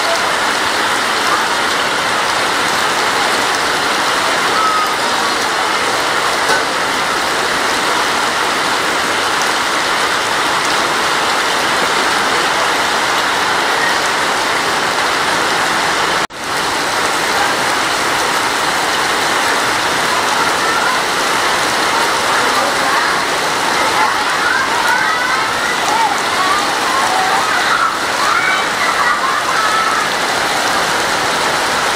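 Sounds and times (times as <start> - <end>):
heavy rain on pavement: 0.0 - 31.9.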